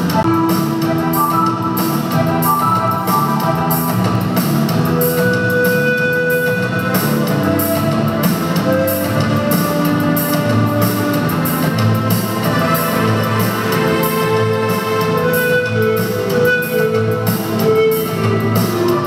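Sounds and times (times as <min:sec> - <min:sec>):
pan flute melody: 0:00.0 - 0:19.0
steady drum beat: 0:00.0 - 0:19.0.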